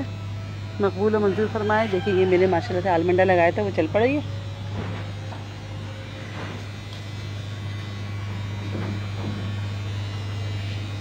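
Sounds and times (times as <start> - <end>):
machine motor humming: 0.0 - 11.0.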